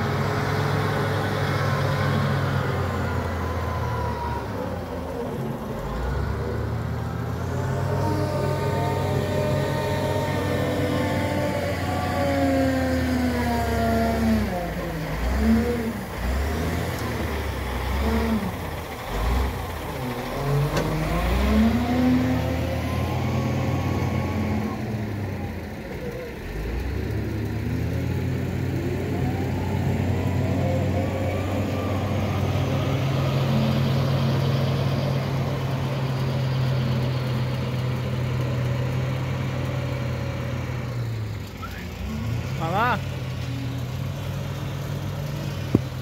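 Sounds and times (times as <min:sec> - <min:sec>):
diesel engine revving: 0:00.0 - 0:46.0.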